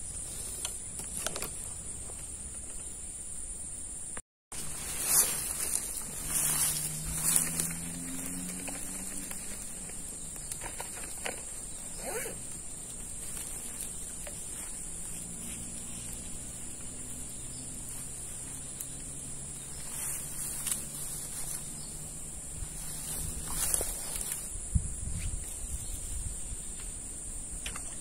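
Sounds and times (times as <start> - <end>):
high-pitched insect drone: 1.8 - 28.0.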